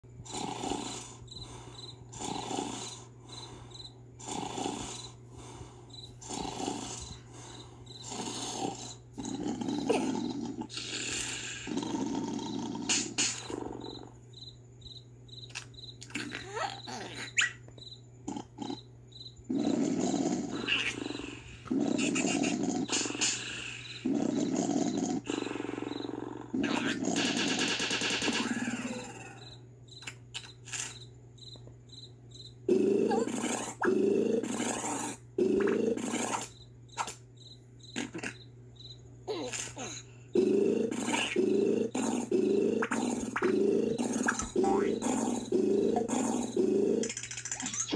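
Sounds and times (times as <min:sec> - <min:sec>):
steady low hum: 0:00.0 - 0:47.2
cartoon snoring: 0:00.2 - 0:14.2, 0:16.2 - 0:17.5, 0:18.2 - 0:18.9, 0:19.5 - 0:29.6, 0:32.7 - 0:36.5, 0:38.0 - 0:38.4, 0:39.3 - 0:47.9.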